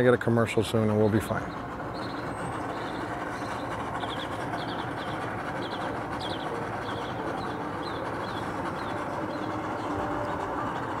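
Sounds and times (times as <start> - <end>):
outboard motors rumbling: 0.0 - 11.0
small birds chirping: 1.4 - 10.9.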